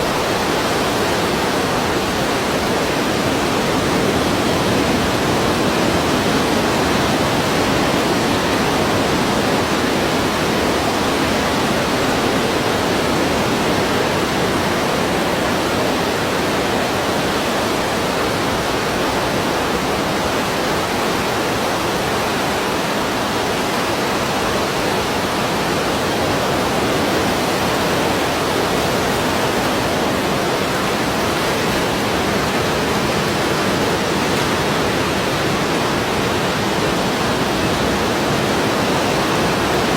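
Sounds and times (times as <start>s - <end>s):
ocean surf rushing: 0.0s - 39.9s.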